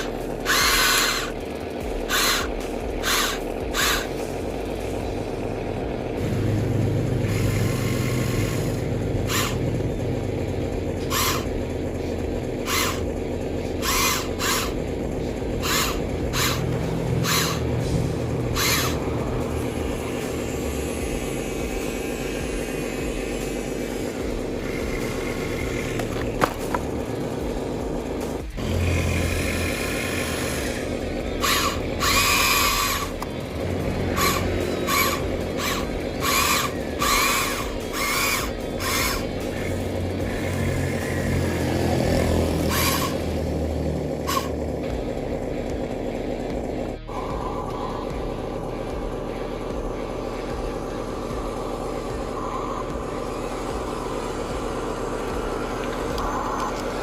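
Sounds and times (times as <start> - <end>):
small electric motors whirring: 0.0 - 57.0.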